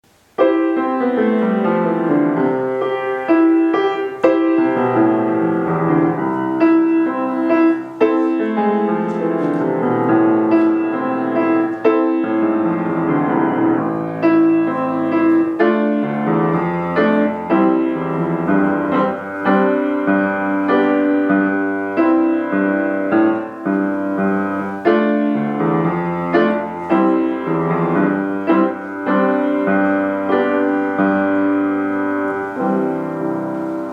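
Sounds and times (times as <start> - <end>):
instrumental keyboard music: 0.1 - 33.9.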